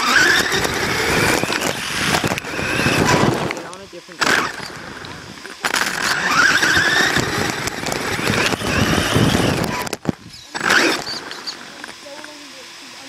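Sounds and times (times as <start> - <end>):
chassis and tyres rattling: 0.0 - 11.8
rc car motor whine: 0.0 - 13.0.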